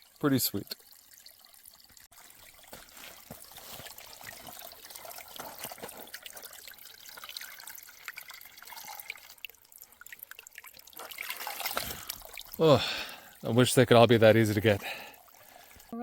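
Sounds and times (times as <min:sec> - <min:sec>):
water trickling from a pipe: 0:00.0 - 0:16.0.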